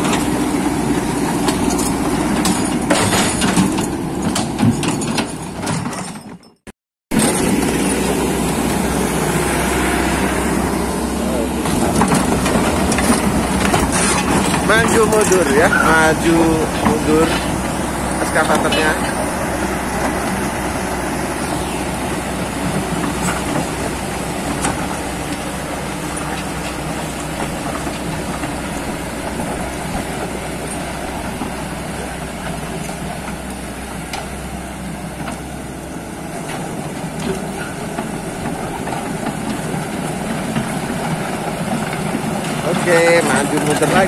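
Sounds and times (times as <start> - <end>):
excavator diesel engine: 0.0 - 6.5, 7.1 - 44.0
steel tracks clanking: 0.0 - 44.0.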